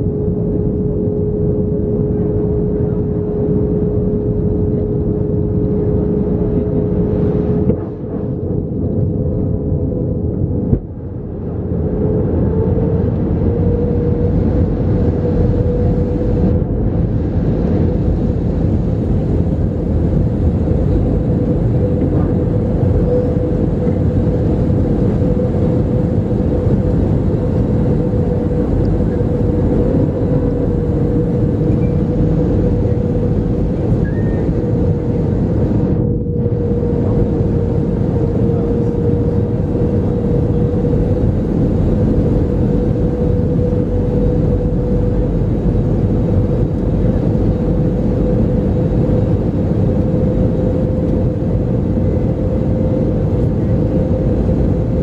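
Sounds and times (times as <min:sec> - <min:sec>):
jet engine drone: 0:00.0 - 0:55.0
steady hum: 0:00.0 - 0:55.0.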